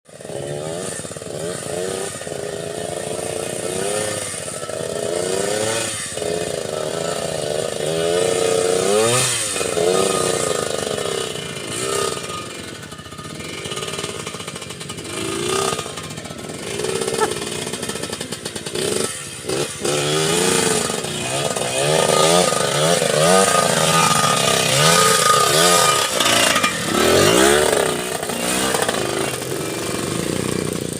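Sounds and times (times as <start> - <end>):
small motorcycle engine revving: 0.1 - 30.9.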